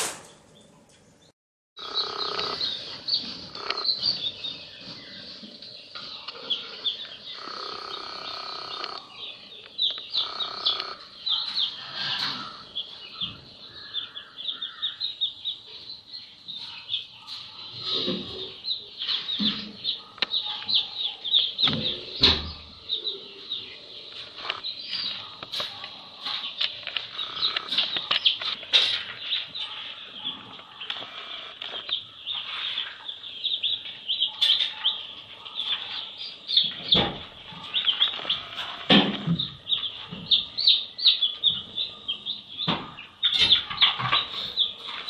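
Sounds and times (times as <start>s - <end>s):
baby chicks peeping: 1.8s - 45.0s.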